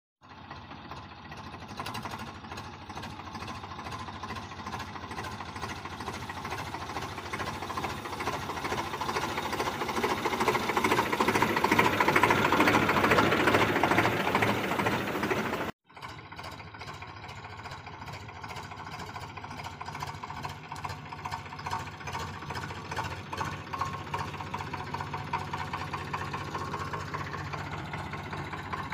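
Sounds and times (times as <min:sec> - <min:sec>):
tractor diesel engine chugging: 0:00.2 - 0:28.9.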